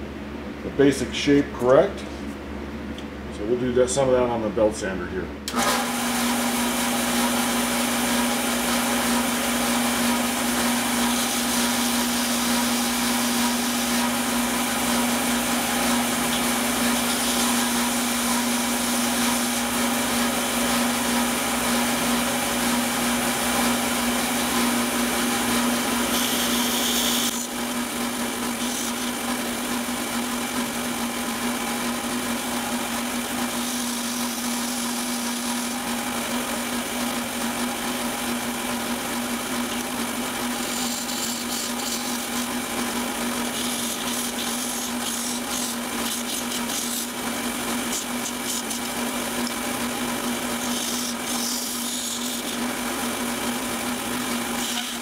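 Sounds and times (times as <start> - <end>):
belt sander motor hum: 5.5 - 55.0.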